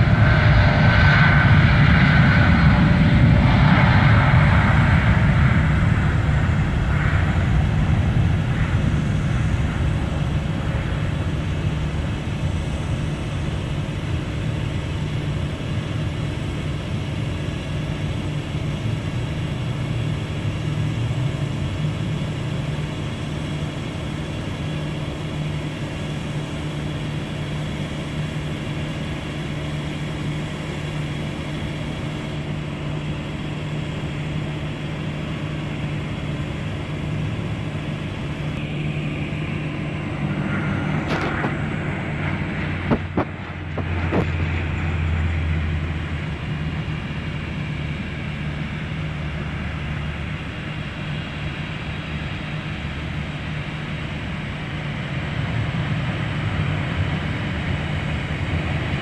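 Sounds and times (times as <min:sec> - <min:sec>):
aircraft engines running: 0:00.0 - 0:59.0
turboprop propeller drone: 0:00.0 - 0:59.0.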